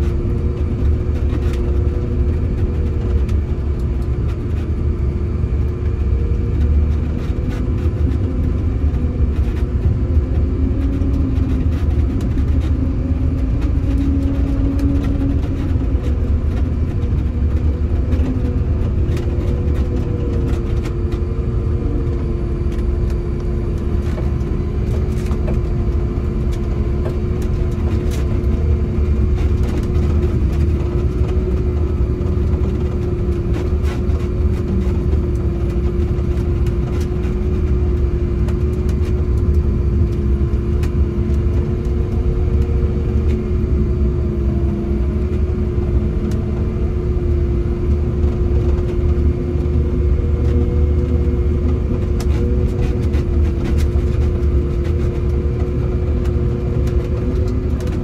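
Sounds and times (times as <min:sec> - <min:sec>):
diesel engine running: 0:00.0 - 0:58.0
whine: 0:00.0 - 0:58.0.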